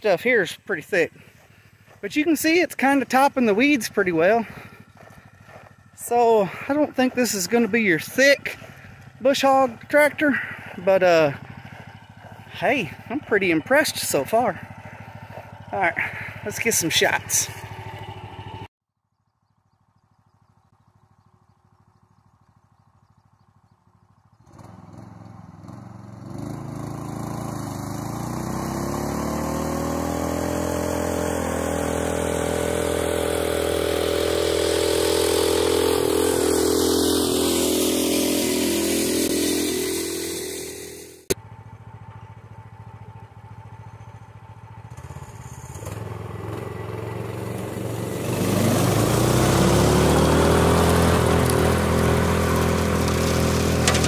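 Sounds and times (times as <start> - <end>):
tractor engine running: 0.0 - 18.7, 19.4 - 54.0.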